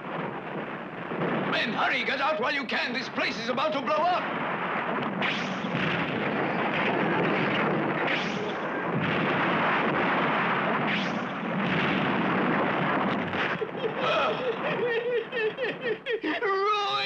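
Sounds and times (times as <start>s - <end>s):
cartoon explosion rumbling blast: 0.0s - 2.1s, 3.4s - 15.0s.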